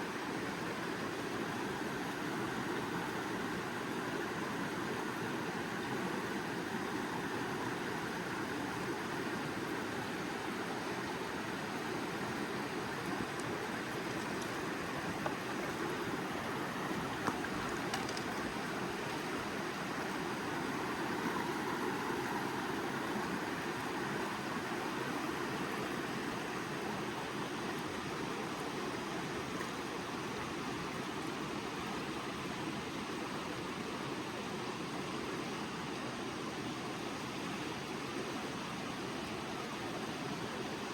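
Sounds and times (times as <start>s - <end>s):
creek water flowing: 0.0s - 40.9s.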